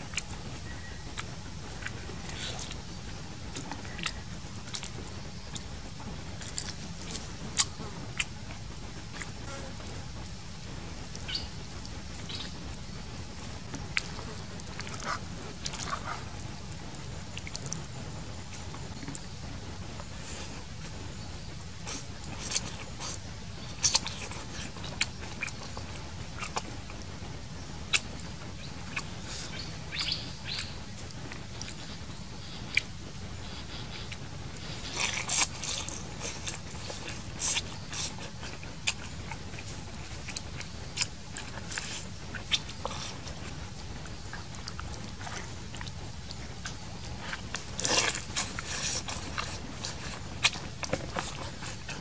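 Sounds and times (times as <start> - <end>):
chewing smacks: 0.0 - 10.0, 13.4 - 19.3, 21.8 - 52.0.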